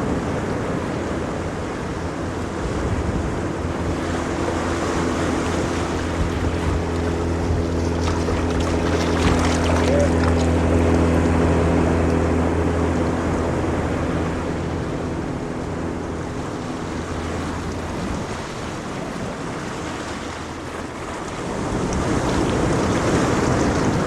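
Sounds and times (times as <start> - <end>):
low motor hum: 0.0 - 24.0
ocean waves washing: 0.0 - 24.0.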